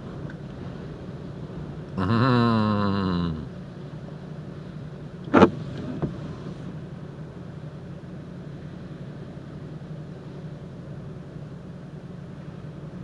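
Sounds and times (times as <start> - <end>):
car idling hum: 0.0 - 13.0.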